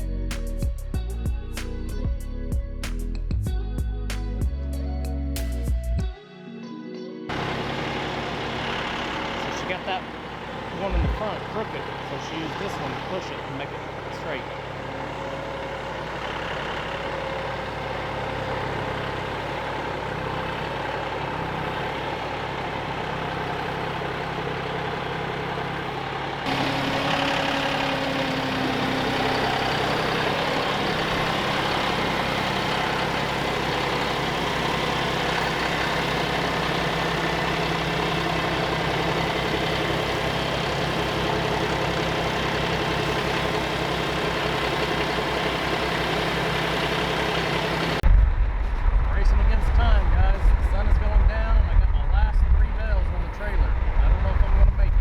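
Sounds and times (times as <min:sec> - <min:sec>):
tractor engine running: 0:00.0 - 0:06.0, 0:07.3 - 0:55.0.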